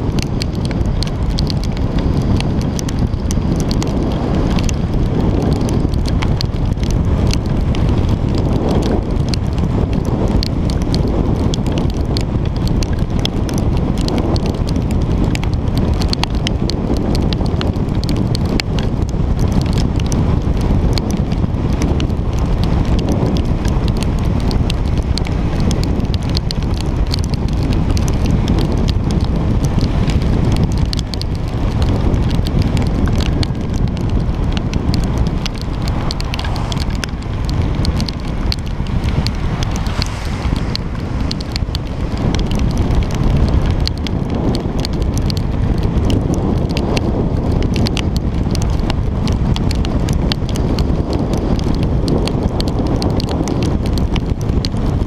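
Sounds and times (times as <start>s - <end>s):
raindrops ticking on camera: 0.0s - 55.0s
wind rushing on microphone: 0.0s - 55.0s.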